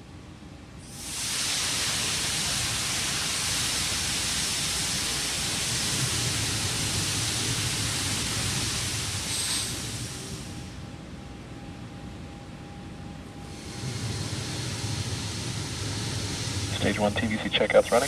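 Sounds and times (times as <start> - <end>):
gas venting hiss: 0.8 - 10.8, 13.5 - 18.0.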